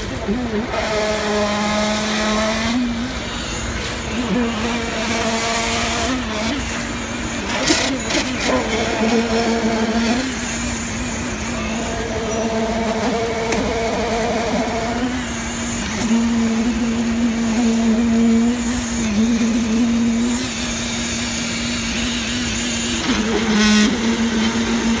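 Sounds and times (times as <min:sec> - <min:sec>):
concrete mixer engine humming: 0:00.0 - 0:25.0.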